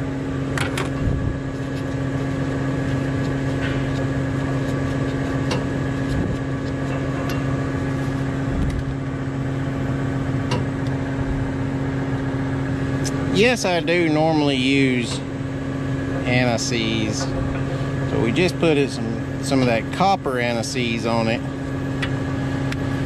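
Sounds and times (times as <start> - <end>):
heavy equipment engine idling: 0.0 - 23.0.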